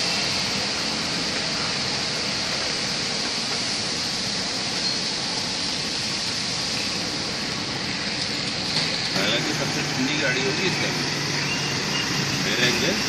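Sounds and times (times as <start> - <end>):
heavy rain on a car: 0.0 - 13.0.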